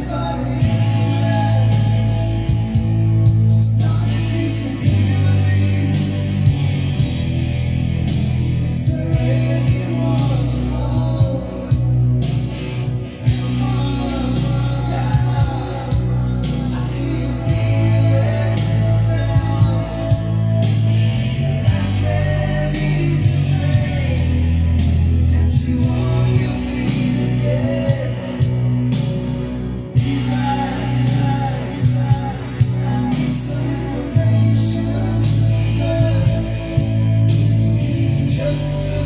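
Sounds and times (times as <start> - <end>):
man singing: 0.0 - 39.0
rock music with guitar: 0.0 - 39.0.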